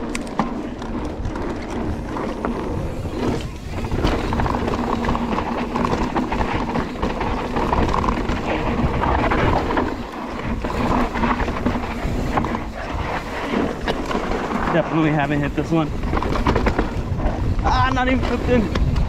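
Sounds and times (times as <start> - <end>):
bike rattling: 0.0 - 19.0
tyres on loose dirt: 0.0 - 19.0
wind on microphone: 0.0 - 19.0.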